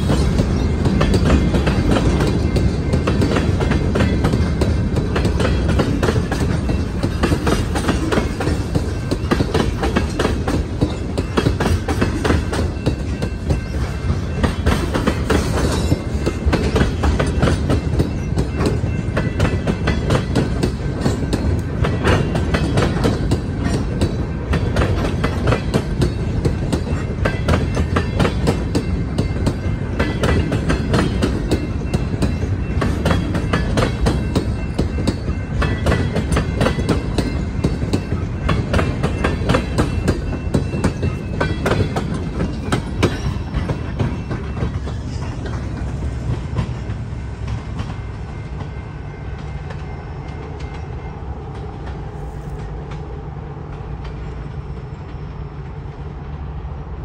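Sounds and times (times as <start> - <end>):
train wheels clacking over rail joints: 0.0 - 56.0
low train rumble: 0.0 - 57.0.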